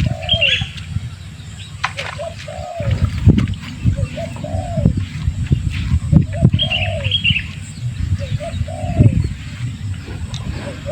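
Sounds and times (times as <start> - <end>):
bird chirping: 0.0 - 10.9
dove cooing: 0.0 - 10.9
low thumps and rumble: 0.0 - 10.9.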